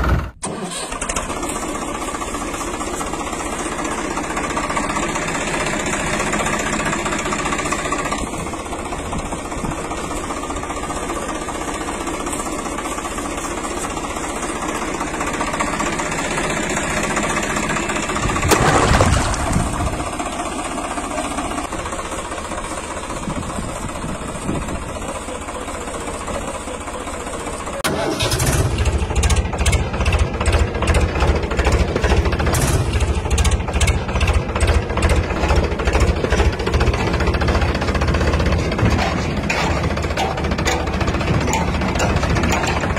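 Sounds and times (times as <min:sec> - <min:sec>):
tractor engine chugging: 0:00.0 - 0:42.9.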